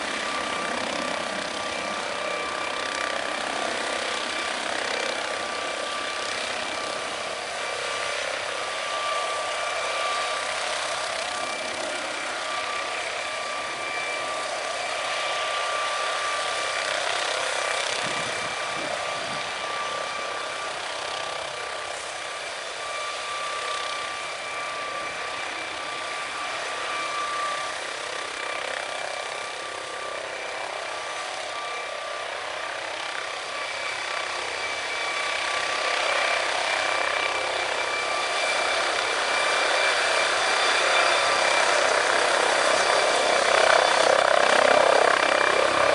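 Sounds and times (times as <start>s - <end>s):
helicopter turbine whine and rotor: 0.0s - 45.9s.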